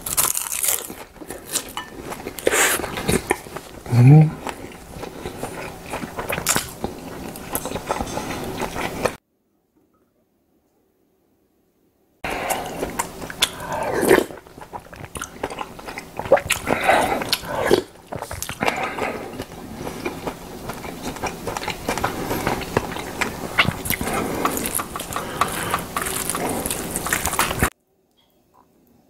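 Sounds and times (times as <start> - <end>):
person chewing and smacking: 0.0 - 9.2, 12.2 - 27.7.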